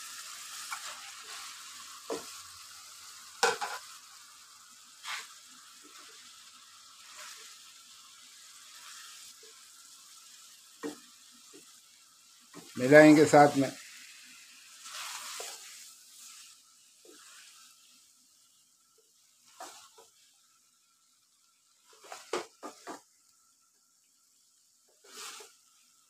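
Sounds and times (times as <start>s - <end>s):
sizzling in a wok: 0.0s - 26.0s.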